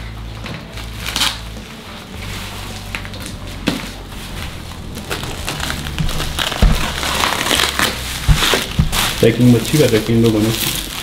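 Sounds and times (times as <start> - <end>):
low steady hum: 0.0 - 11.0
cardboard crunching and scraping: 0.8 - 11.0.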